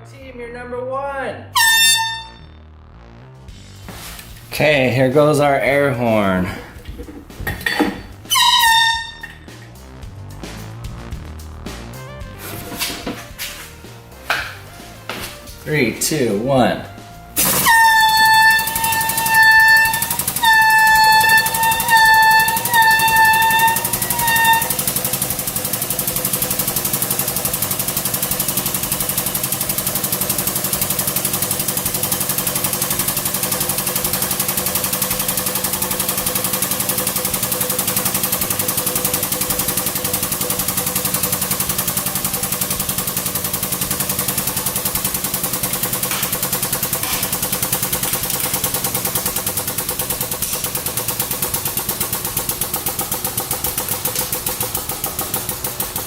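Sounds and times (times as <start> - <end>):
hydraulic press pulsing hum: 3.8 - 9.7, 16.3 - 56.0.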